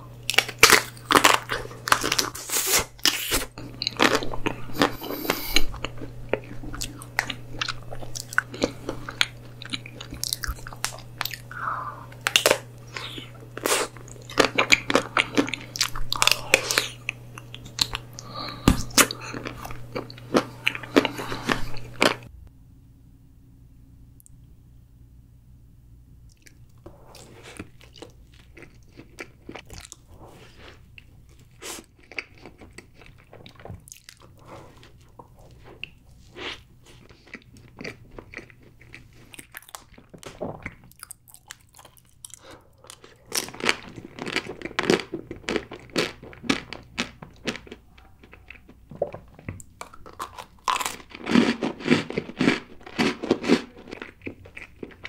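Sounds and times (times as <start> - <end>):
close chewing with crunching bites: 0.2 - 22.3, 26.3 - 55.0.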